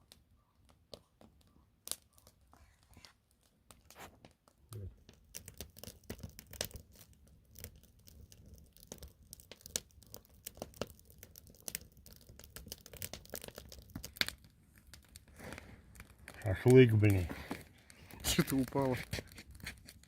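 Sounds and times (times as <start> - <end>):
crackling and rustling clicks: 3.0 - 20.0.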